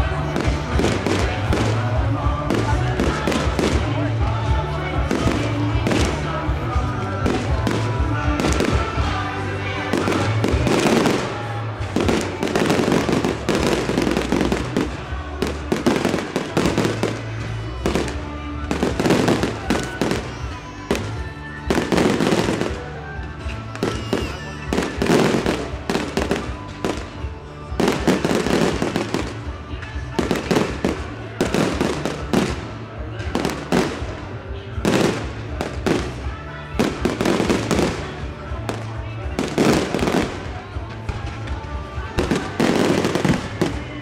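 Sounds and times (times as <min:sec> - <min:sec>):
fireworks bangs and crackling: 0:00.0 - 0:44.0
music playing: 0:00.0 - 0:44.0.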